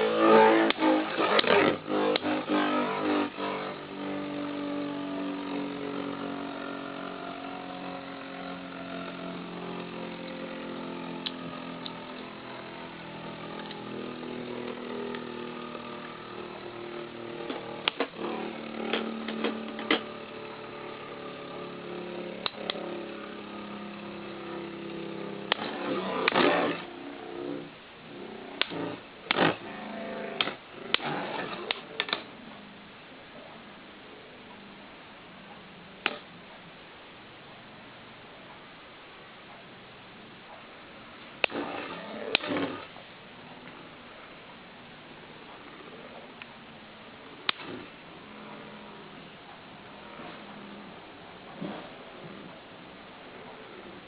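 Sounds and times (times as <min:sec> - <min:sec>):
spinning tops whirring hum: 0:00.0 - 0:54.0.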